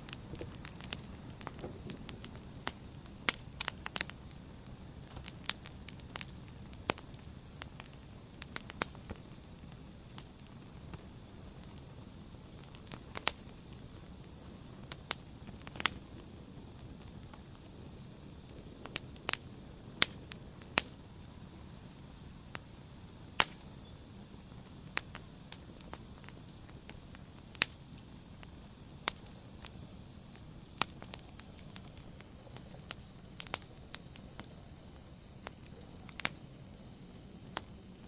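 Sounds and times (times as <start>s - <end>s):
fire hissing: 0.0s - 38.0s
wood fire crackles and pops: 0.0s - 38.0s.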